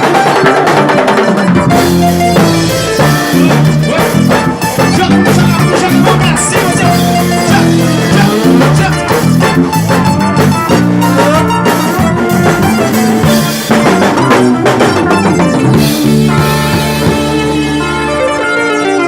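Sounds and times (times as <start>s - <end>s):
drum kit beats: 0.0s - 19.0s
gospel band playing: 0.0s - 19.0s
sustained bass notes: 0.0s - 19.0s.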